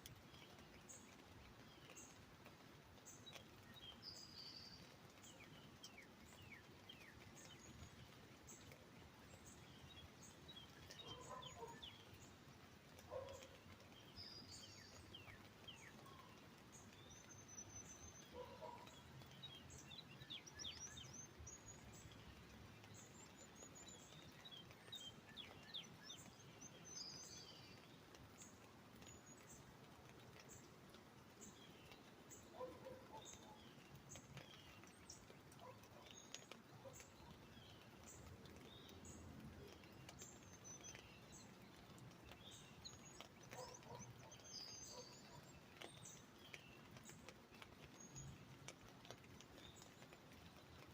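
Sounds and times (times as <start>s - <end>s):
faint steady hiss: 0.0s - 50.9s
bird chirps and calls: 3.1s - 12.4s, 13.0s - 29.7s, 31.4s - 50.9s.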